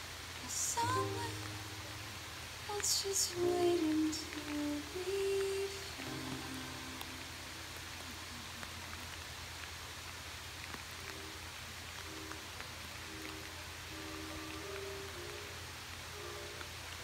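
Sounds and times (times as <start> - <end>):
steady rainfall: 0.0 - 17.0
faint musical notes: 0.4 - 9.2, 11.0 - 17.0.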